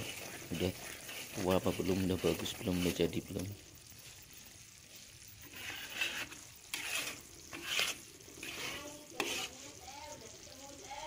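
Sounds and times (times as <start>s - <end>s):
stirring strokes scraping metal wok: 0.0s - 11.0s
syrup bubbling and sizzling: 0.0s - 11.0s.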